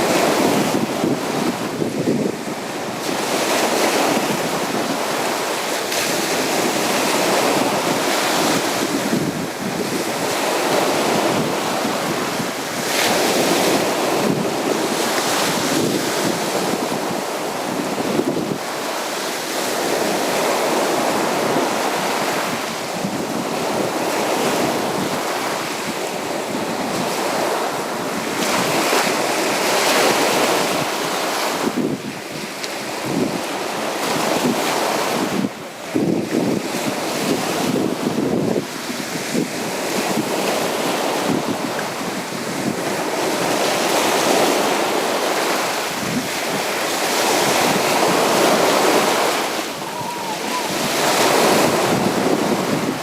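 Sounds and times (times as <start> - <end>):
sea surf breaking on beach: 0.0 - 53.0.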